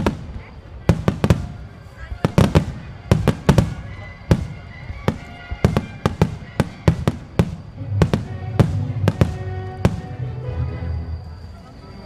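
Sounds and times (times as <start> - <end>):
fireworks bursting: 0.0 - 11.3.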